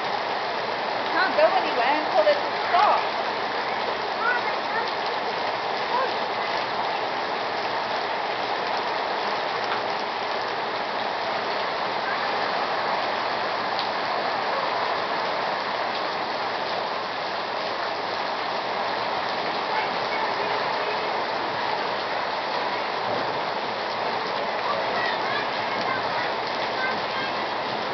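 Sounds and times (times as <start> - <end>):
heavy rain on pavement and cars: 0.0 - 27.9.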